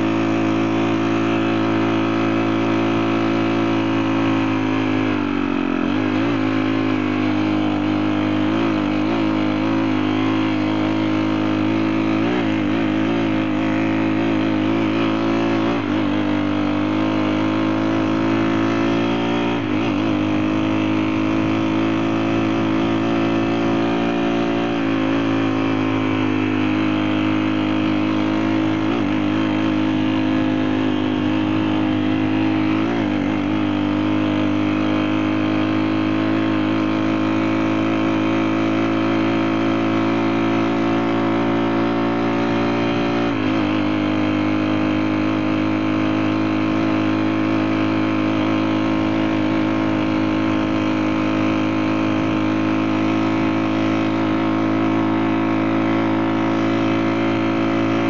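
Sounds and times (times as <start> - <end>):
small four-stroke engine running: 0.0 - 58.0.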